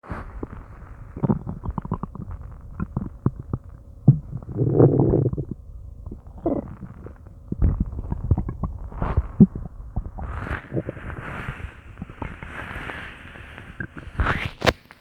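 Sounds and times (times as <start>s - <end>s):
stomach growl: 0.0s - 14.9s
stomach gurgling: 0.0s - 15.0s.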